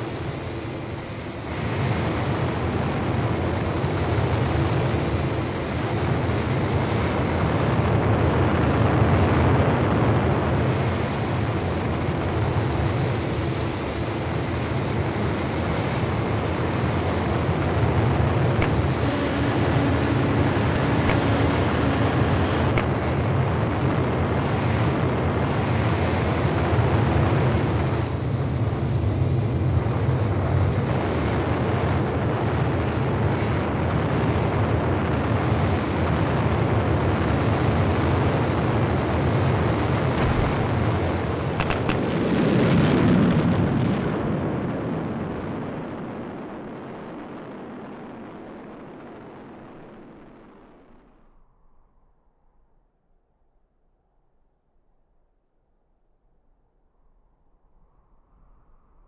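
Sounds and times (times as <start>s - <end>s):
rocket engine noise: 0.0s - 51.1s.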